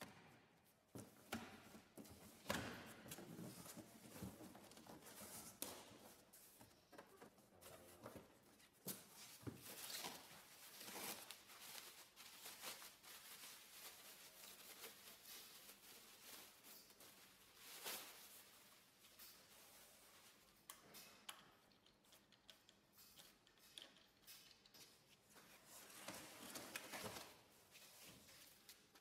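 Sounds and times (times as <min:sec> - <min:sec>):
plastic and cardboard rustling: 0:00.9 - 0:20.6, 0:25.2 - 0:29.0.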